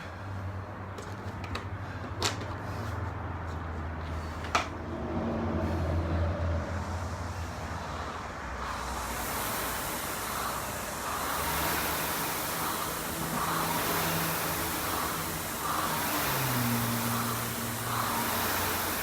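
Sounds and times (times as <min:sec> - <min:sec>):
rowing machine fan whooshing: 0:00.0 - 0:19.0.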